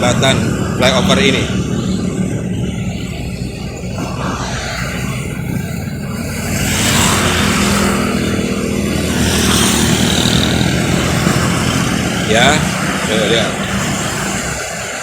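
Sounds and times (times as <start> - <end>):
road traffic: 0.0 - 15.0
vehicle passing close: 0.0 - 15.0.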